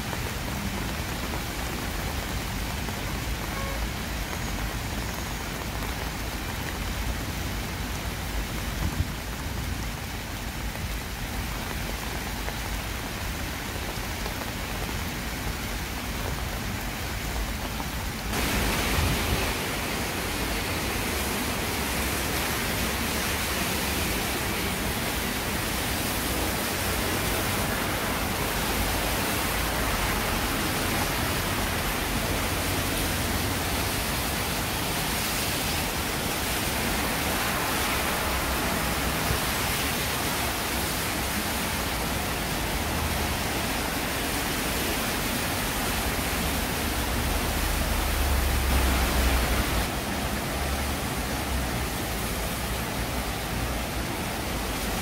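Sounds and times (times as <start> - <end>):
heavy rain hissing: 0.0 - 55.0
rushing flooded stream: 0.0 - 55.0.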